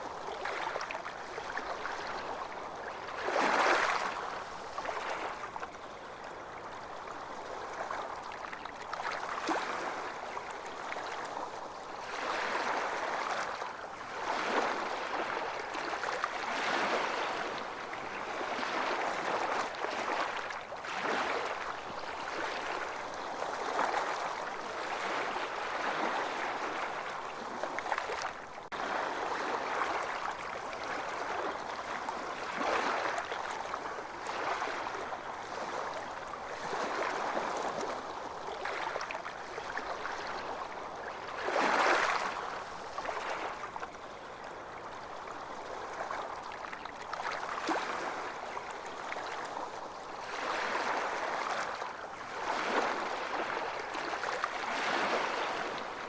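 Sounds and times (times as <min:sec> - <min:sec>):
ocean waves on beach: 0:00.0 - 0:08.2, 0:08.9 - 0:56.0.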